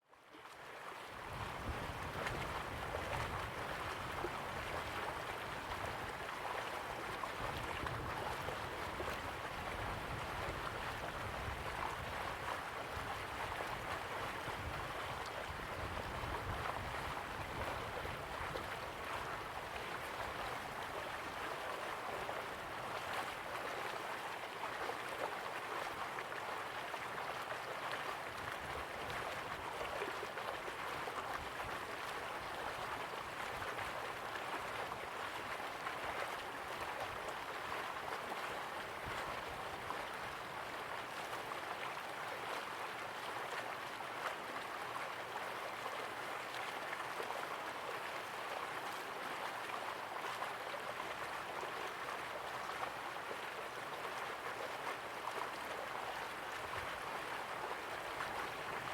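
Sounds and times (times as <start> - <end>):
river water flowing: 0.1 - 58.9.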